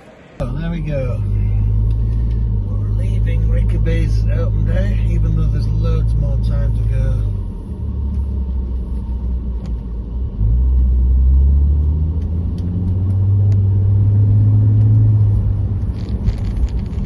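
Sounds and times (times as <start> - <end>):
car engine accelerating: 0.0 - 17.0
road rumble: 0.0 - 17.0.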